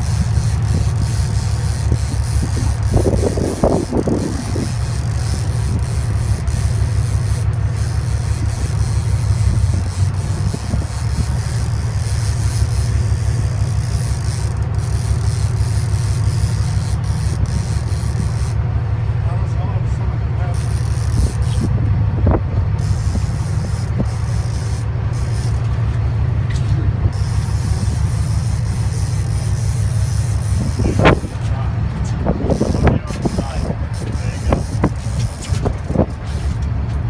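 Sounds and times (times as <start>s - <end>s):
boat engine rumbling: 0.0s - 37.0s.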